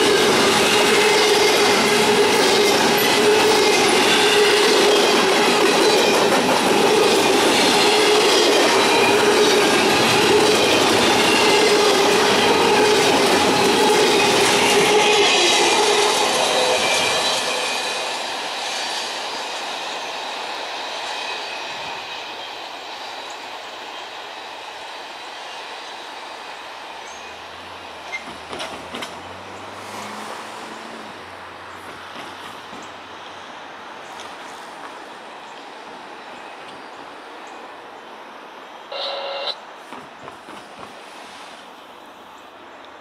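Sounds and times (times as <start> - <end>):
train wheels rolling on rails: 0.0 - 43.0.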